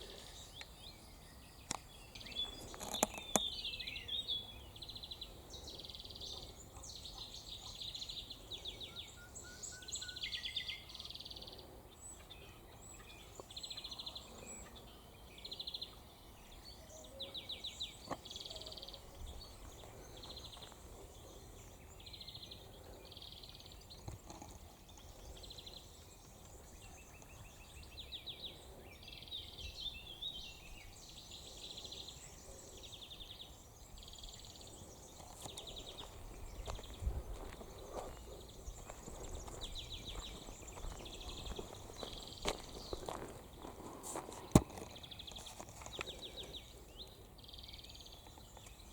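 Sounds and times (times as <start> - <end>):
birds chirping and twittering: 0.0 - 48.9.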